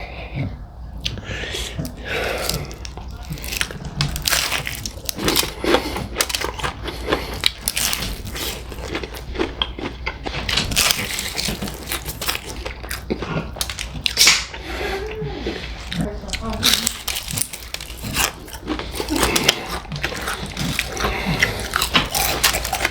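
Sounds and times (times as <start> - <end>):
chewing: 0.4 - 22.9
crunching bites of fried chicken: 1.9 - 14.6, 15.8 - 22.9.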